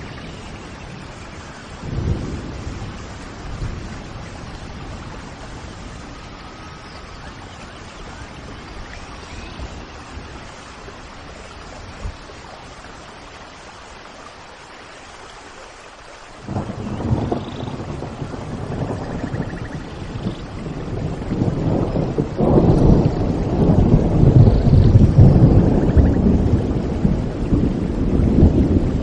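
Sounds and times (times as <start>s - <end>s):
low rumble of thunder: 0.0s - 13.2s, 16.4s - 29.0s
steady rain: 0.0s - 29.0s.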